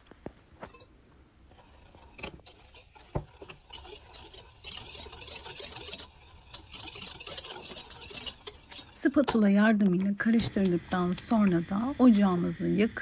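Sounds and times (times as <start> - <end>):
whisk scraping metal pot: 0.6 - 9.6, 10.2 - 13.0.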